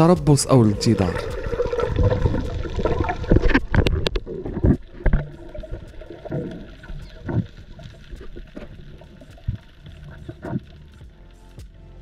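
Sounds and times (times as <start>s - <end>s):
water splashing and sloshing: 0.0s - 11.2s.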